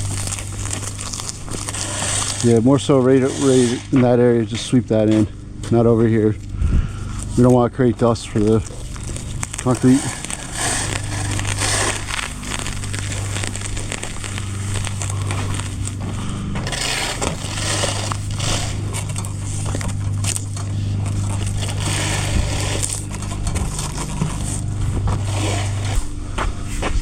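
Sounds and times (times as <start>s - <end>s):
broom and shovel scraping ground: 0.0s - 27.0s
engine humming: 0.0s - 27.0s.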